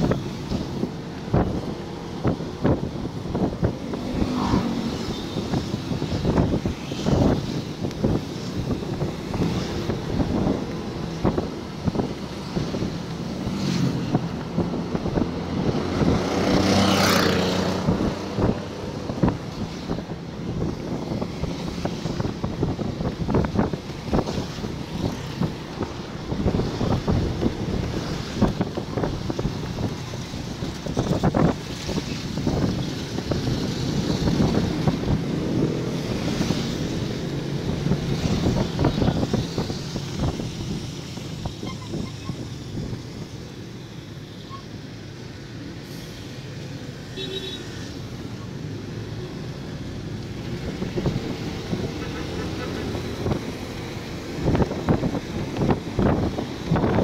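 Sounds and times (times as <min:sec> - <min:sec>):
wind thumping on microphone: 0:00.0 - 0:43.4, 0:49.8 - 0:57.0
tyres hissing on wet road: 0:00.0 - 0:57.0.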